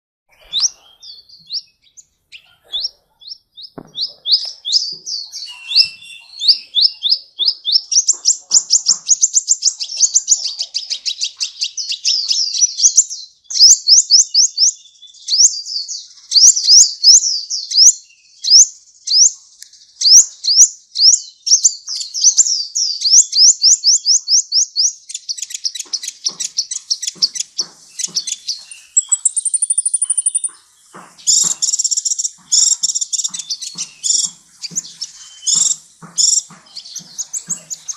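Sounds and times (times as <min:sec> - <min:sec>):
bird singing chirps and trills: 0:00.3 - 0:37.9.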